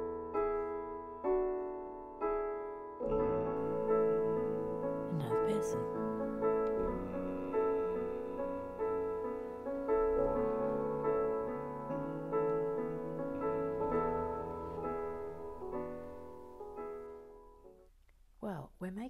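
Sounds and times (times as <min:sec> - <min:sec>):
slow solo piano: 0:00.0 - 0:17.9.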